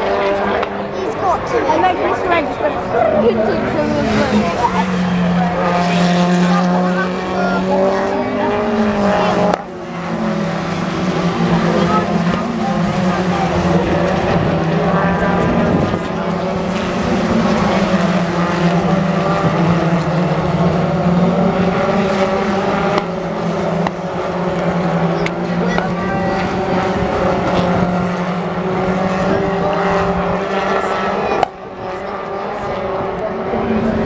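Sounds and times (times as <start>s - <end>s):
racing car engines passing: 0.0s - 34.0s.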